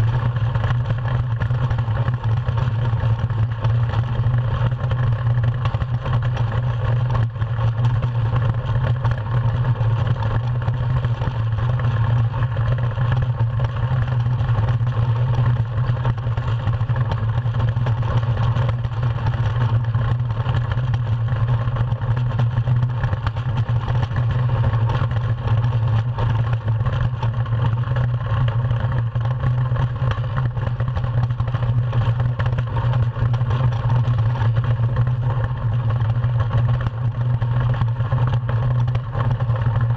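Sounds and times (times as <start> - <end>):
runners droning over ice: 0.0 - 39.9.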